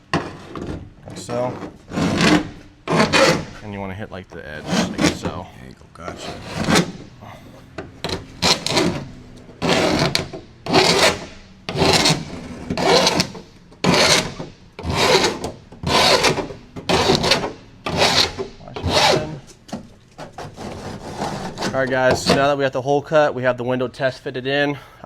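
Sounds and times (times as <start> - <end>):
file scraping metal edge: 0.0 - 7.4, 8.0 - 22.6.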